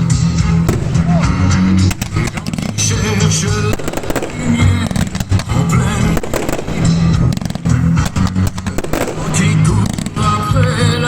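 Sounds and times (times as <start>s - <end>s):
fireworks bangs: 0.0s - 11.0s
music with bass line: 0.0s - 11.0s.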